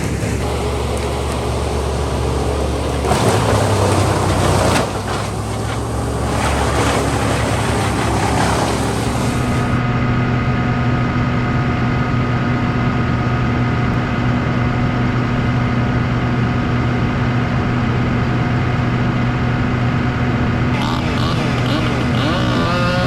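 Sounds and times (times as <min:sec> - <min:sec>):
heavy engine humming: 0:00.0 - 0:23.0.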